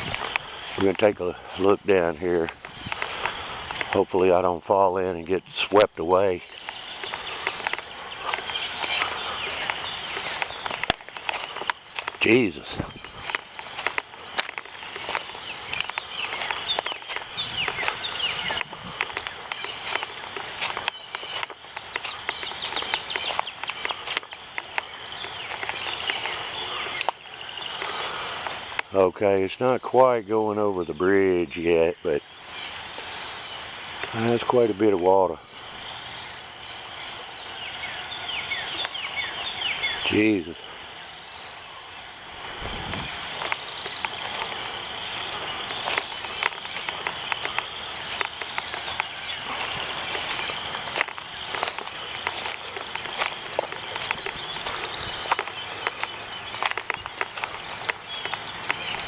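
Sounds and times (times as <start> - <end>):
birds chirping: 0.0 - 59.0
high insect drone: 5.7 - 59.0.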